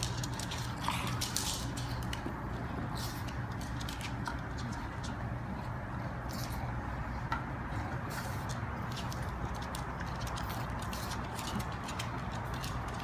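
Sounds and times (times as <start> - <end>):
dog claws clicking on wooden floor: 0.0 - 5.7, 6.3 - 13.0.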